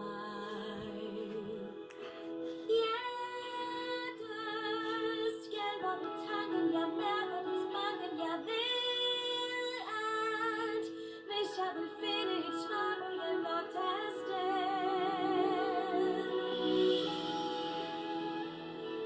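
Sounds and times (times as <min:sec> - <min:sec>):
soft instrumental backing: 0:00.0 - 0:19.0
woman singing a ballad: 0:00.0 - 0:19.0.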